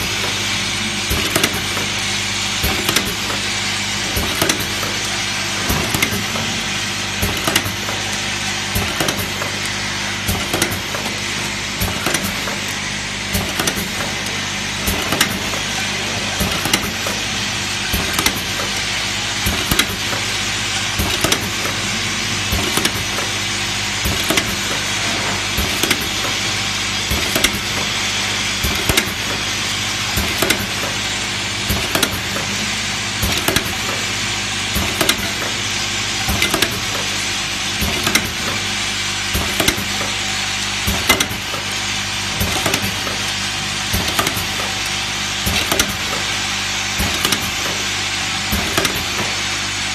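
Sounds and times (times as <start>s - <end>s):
bowl feeders humming and rattling: 0.0s - 49.9s
pneumatic machine clacks: 0.0s - 49.9s.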